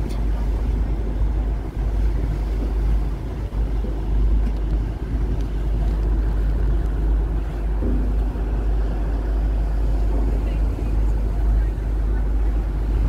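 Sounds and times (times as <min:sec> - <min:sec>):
ferry engine rumble: 0:00.0 - 0:13.0
wind buffeting microphone: 0:00.0 - 0:13.0.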